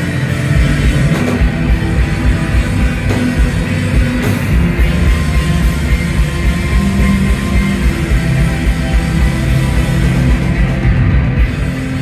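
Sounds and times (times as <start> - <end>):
live post-rock band playing: 0.0 - 12.0.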